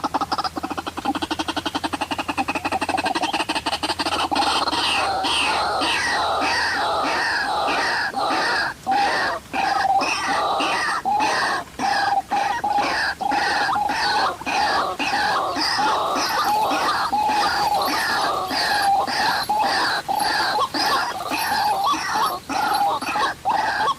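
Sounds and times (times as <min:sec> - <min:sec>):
bird harsh croaking calls: 0:00.0 - 0:23.9.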